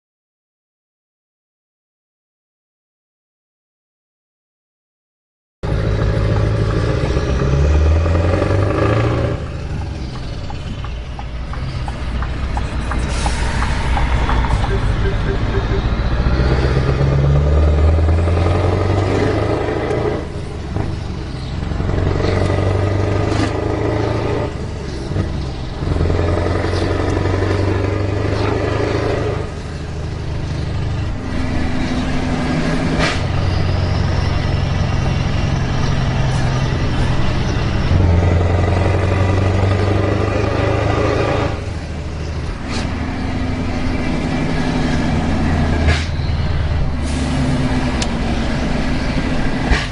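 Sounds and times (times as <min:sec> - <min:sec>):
diesel truck engine running hard: 0:05.6 - 0:49.9.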